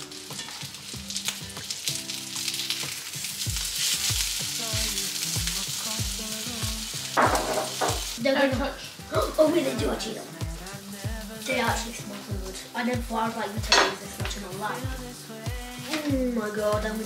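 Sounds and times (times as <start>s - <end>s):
background music with a beat: 0.0s - 17.0s
chicken sizzling in a pan: 0.0s - 17.0s.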